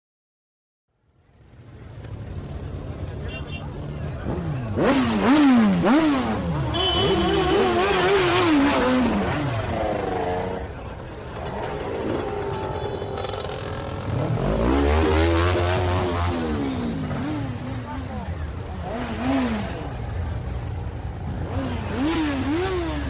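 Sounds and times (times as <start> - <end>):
motorcycle engine revving: 2.1 - 23.0.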